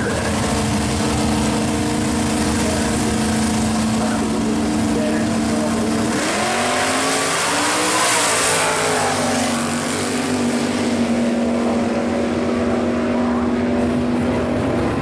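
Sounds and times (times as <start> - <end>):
drag car engines accelerating: 0.0 - 15.0.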